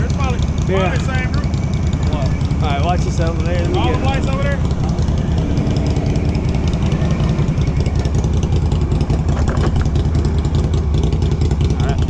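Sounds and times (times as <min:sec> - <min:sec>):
four-wheeler engine running: 0:00.0 - 0:12.0.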